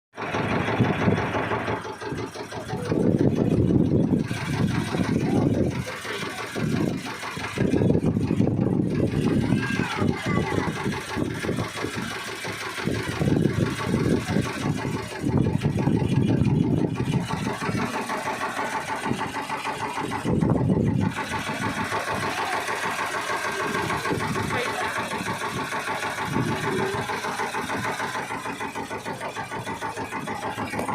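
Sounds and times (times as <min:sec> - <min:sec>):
boat engine droning: 0:00.1 - 0:30.9.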